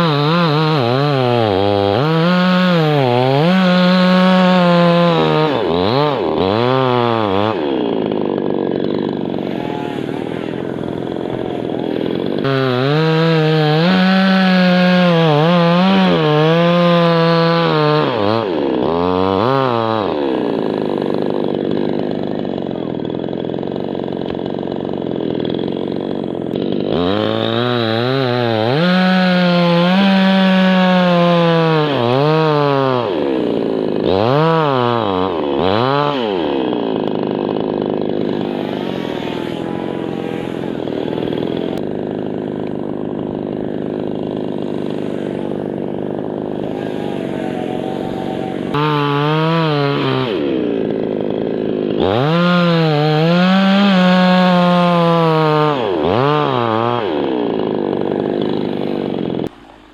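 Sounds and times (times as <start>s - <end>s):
chainsaw cutting at full throttle: 0.0s - 59.9s
chainsaw idling: 0.0s - 59.9s.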